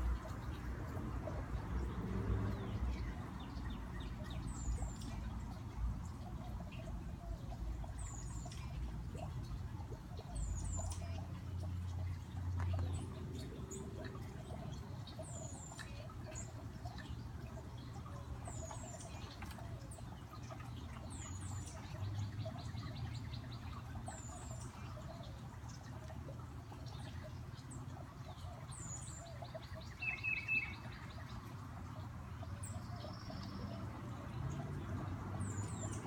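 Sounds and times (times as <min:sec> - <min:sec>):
garden fountain wash: 0:00.0 - 0:36.0.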